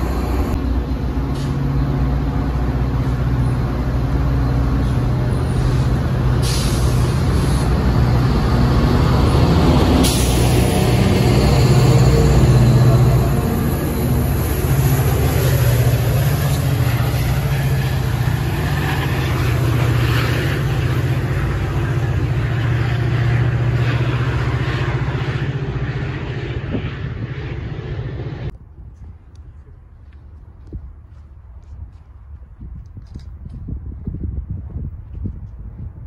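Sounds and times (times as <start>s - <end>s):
diesel train engine drone: 0.0s - 36.0s
rail noise: 0.0s - 36.0s.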